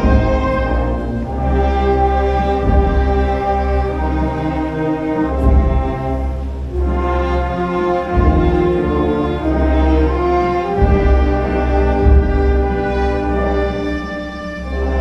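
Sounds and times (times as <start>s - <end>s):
slow orchestral music with brass: 0.0s - 15.0s.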